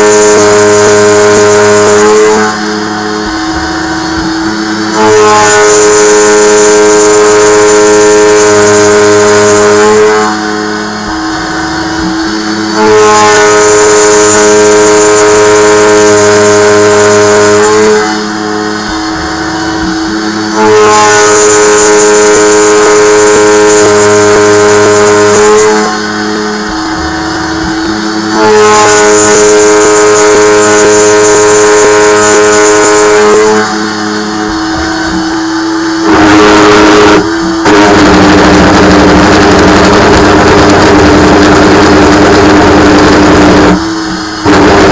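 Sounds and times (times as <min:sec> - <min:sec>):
milling machine cutting steel whine: 0:00.0 - 0:44.9.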